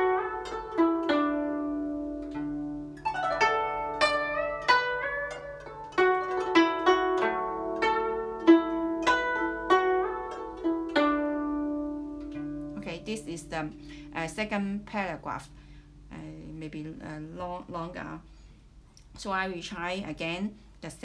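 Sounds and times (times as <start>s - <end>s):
plucked zither notes: 0.0s - 18.2s.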